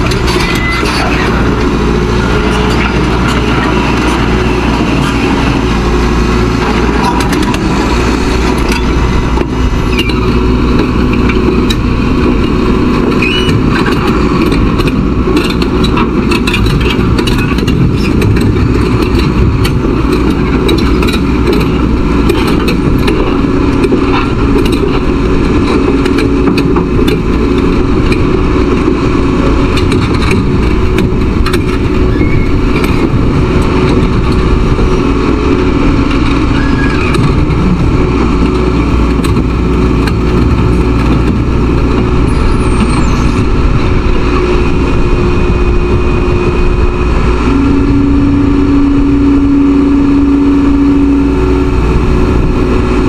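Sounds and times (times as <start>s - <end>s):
diesel engine rumble: 0.0s - 53.0s
track links clanking: 0.0s - 53.0s.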